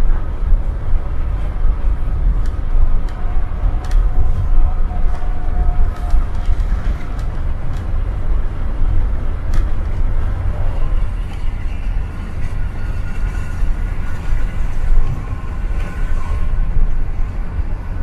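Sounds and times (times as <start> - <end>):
coach engine and tyre rumble: 0.0 - 18.0.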